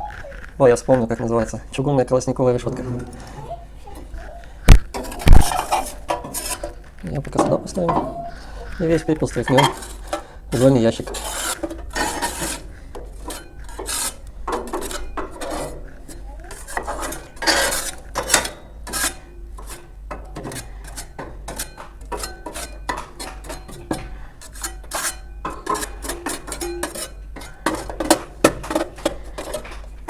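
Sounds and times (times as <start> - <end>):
trowel scraping metal firebox: 2.6 - 30.0.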